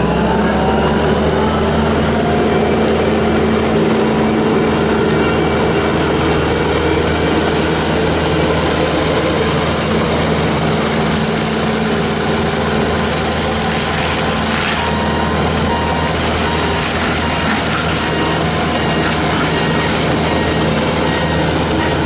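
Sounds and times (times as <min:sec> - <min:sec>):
diesel engine running loud: 0:00.0 - 0:22.0
mulcher rushing noise: 0:00.0 - 0:22.0.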